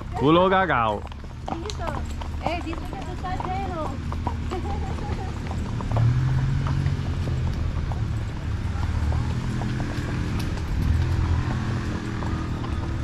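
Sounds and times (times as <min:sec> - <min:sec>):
hooves clip-clopping on dirt: 0:00.0 - 0:13.0.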